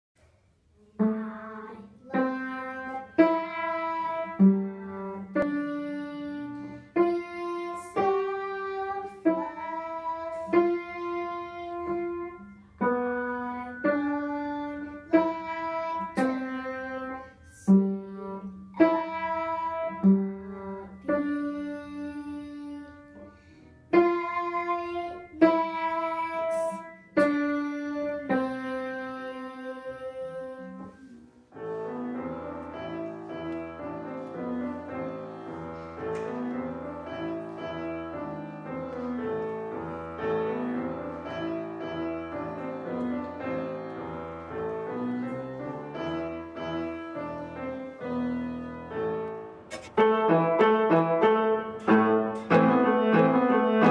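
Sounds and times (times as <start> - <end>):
upright piano slow melody: 0.6 - 53.9.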